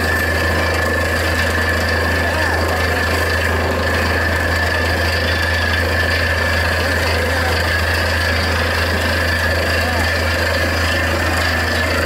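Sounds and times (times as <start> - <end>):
drilling rig engine drone: 0.0 - 12.0
steady high whine: 0.0 - 12.0.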